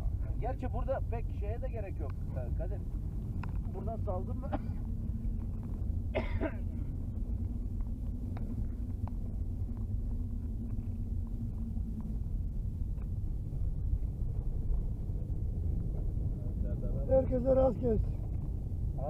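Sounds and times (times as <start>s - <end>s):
car engine and road rumble: 0.0s - 19.0s
faint steady hum: 0.0s - 19.0s.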